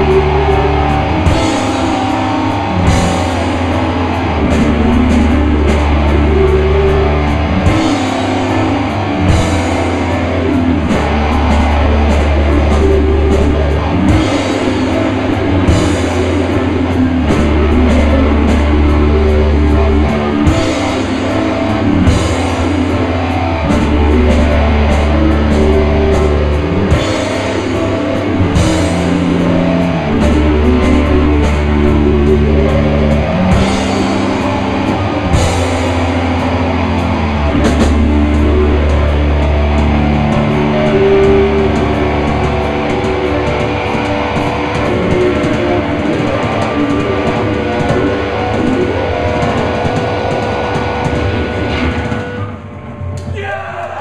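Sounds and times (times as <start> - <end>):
live rock band playing: 0.0 - 53.4.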